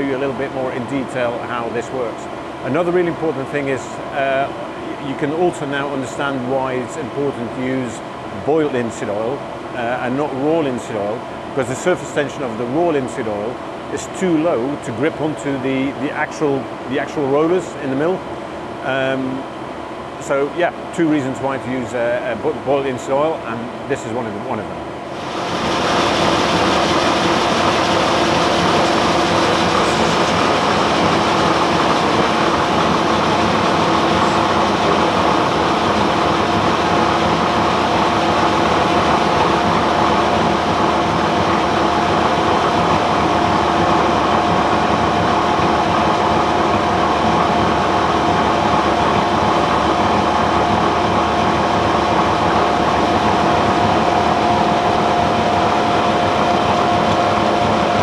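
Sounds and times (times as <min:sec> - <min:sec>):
roller mill humming: 0:00.0 - 0:58.0.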